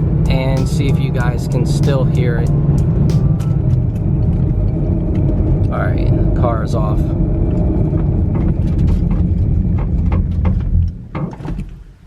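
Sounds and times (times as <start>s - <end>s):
tyre and road rumble: 0.0s - 12.0s
car creaks: 0.3s - 12.0s.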